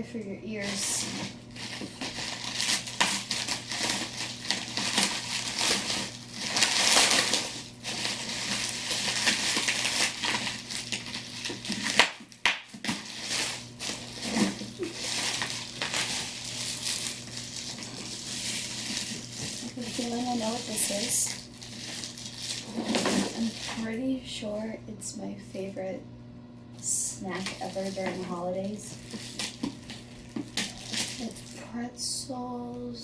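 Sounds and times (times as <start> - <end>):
plastic packaging crinkling: 0.6 - 24.0, 27.2 - 31.6.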